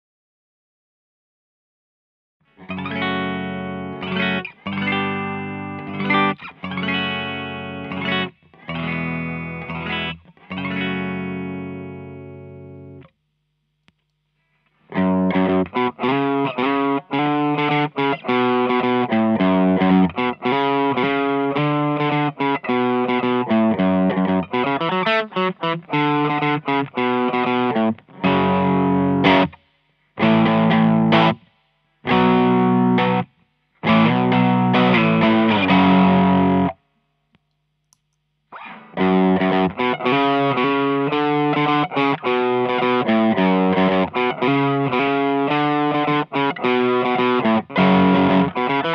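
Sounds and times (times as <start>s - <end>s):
overdriven electric guitar: 2.4s - 13.2s, 14.8s - 36.8s, 38.5s - 48.9s.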